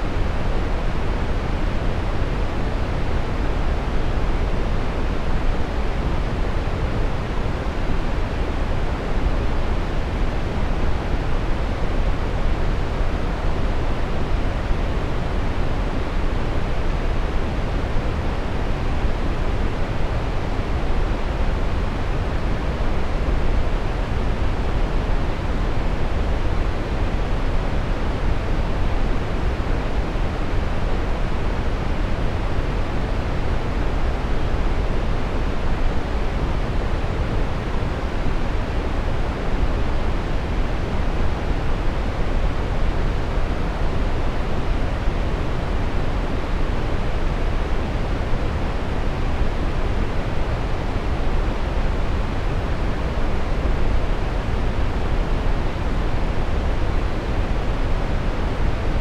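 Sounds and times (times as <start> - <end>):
brown noise: 0.0 - 59.0.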